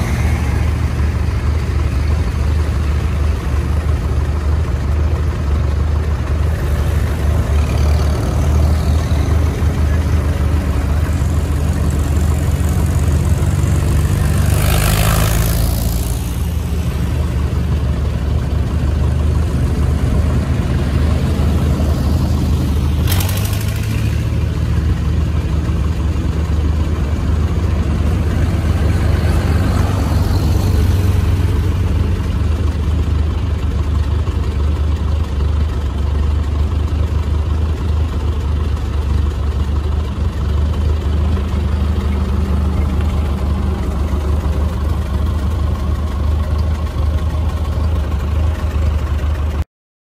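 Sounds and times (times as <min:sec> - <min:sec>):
old truck engine passing: 0:00.0 - 0:49.6
tractor engine passing: 0:00.0 - 0:49.6.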